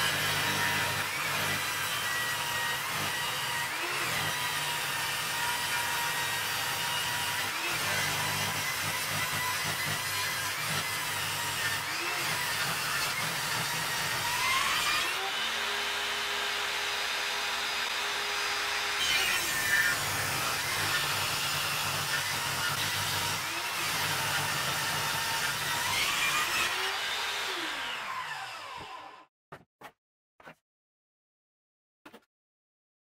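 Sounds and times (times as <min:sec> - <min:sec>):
table saw cutting wood: 0:00.0 - 0:29.3.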